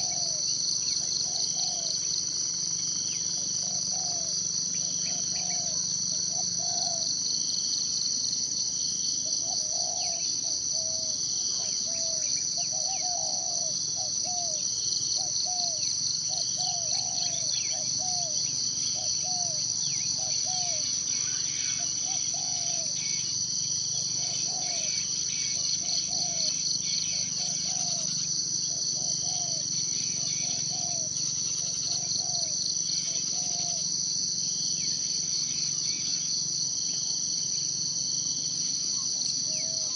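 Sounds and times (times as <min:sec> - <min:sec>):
pulsing insect chorus: 0:00.0 - 0:39.9.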